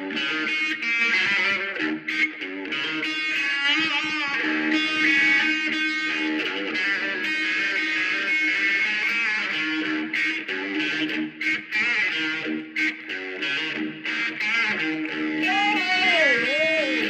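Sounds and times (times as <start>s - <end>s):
electric guitar blues lead: 0.0s - 17.0s.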